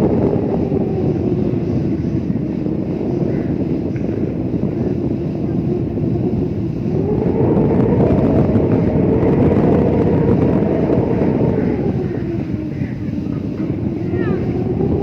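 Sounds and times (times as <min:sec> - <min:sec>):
howling wind: 0:00.0 - 0:15.0.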